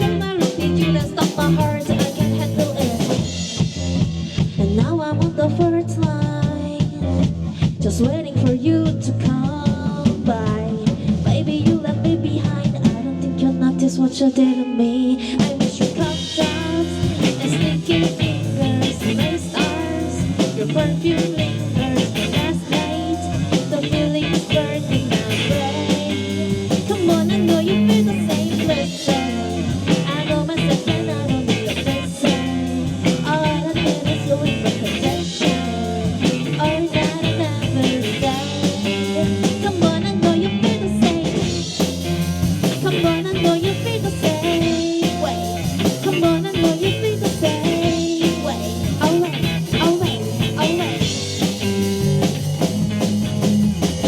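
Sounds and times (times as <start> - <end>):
rock band playing: 0.0 - 8.3, 15.2 - 54.0.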